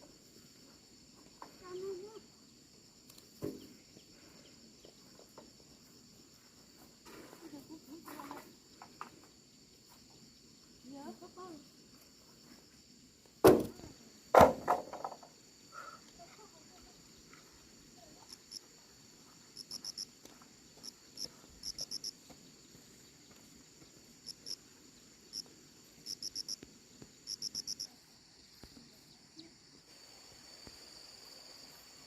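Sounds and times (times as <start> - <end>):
crickets chirping: 0.0 - 32.0
high insect drone: 0.0 - 32.0.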